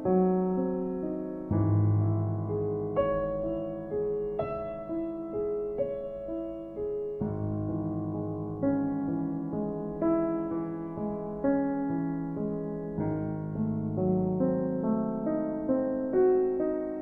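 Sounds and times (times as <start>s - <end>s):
slow gentle piano piece: 0.0s - 17.0s.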